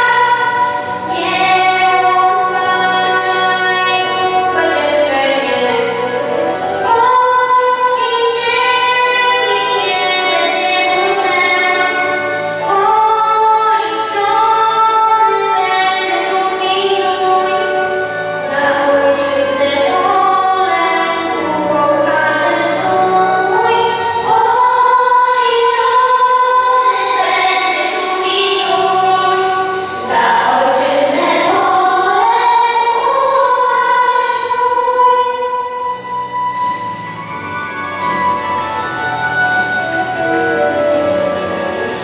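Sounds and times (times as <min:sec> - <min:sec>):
children's choir singing: 0:00.0 - 0:42.0
instrumental accompaniment with bass: 0:00.0 - 0:42.0.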